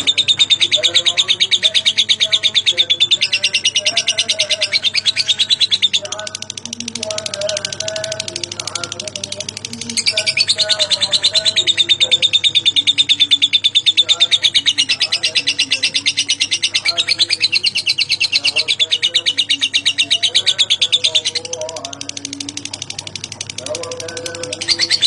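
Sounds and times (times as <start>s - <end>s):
lovebird chattering trill: 0.0s - 25.0s.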